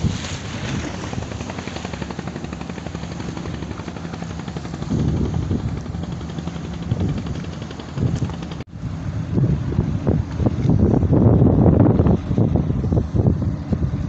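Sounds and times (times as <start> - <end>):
boat engine throbbing: 0.0 - 14.0
wind gusting on microphone: 0.0 - 14.0.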